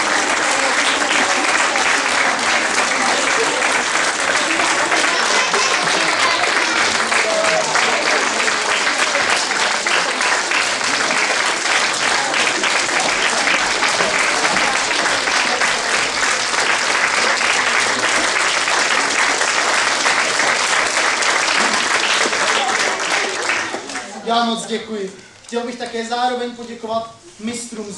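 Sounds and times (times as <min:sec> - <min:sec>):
audience applauding: 0:00.0 - 0:24.3.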